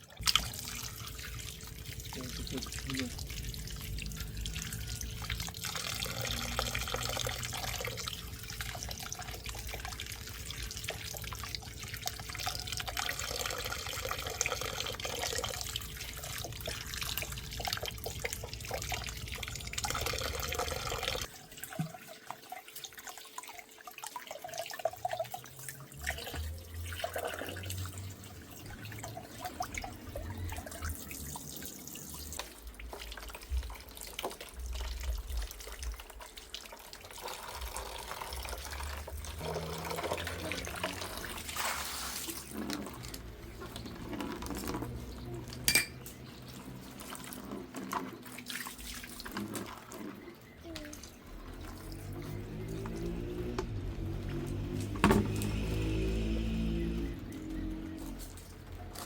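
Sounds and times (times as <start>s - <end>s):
water running from a tap: 0.0s - 59.0s.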